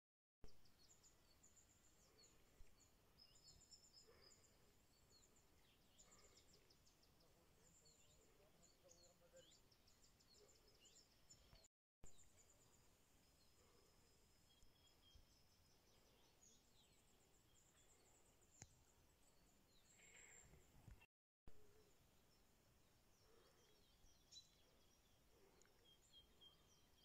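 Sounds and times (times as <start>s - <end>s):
small birds chirping and trilling: 0.5s - 27.0s.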